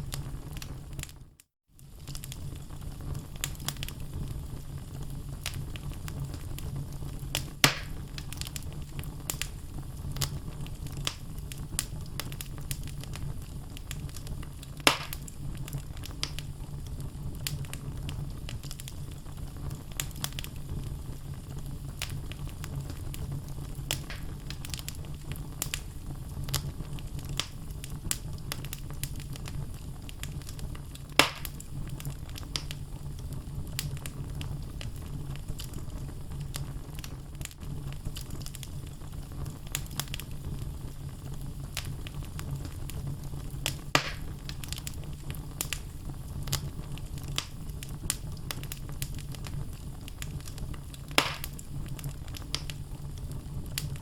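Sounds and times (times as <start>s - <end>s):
loud pops of fire: 0.0s - 1.2s, 1.8s - 54.0s
low rumble of flames: 0.0s - 54.0s
wood fire crackling: 0.0s - 54.0s.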